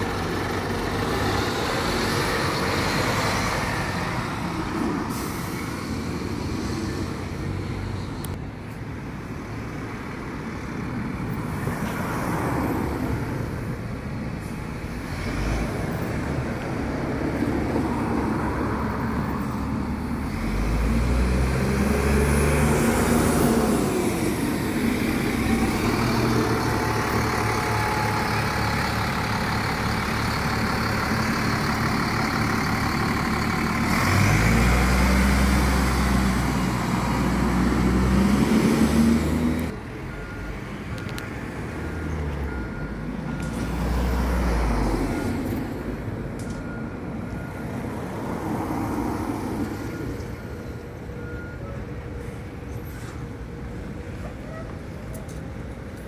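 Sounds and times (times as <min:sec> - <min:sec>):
bus engine running close by: 0:00.0 - 0:56.0
bus pulling away: 0:00.0 - 0:56.0.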